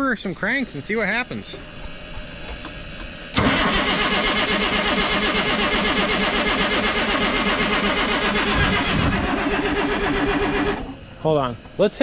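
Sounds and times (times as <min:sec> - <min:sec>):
diesel engine cranking on starter: 0:00.5 - 0:11.8.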